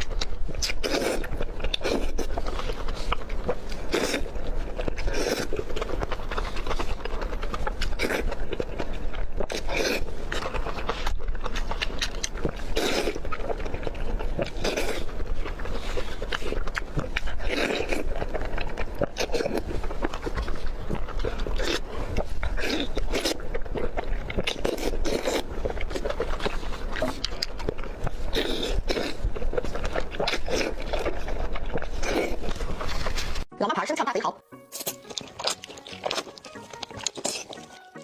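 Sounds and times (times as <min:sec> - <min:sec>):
person chewing oysters: 0:00.0 - 0:33.5, 0:34.6 - 0:38.0.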